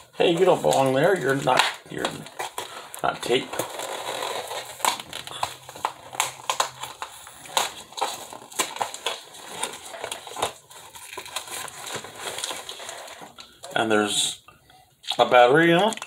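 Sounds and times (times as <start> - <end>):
cardboard and tape crackling: 0.0 - 13.9.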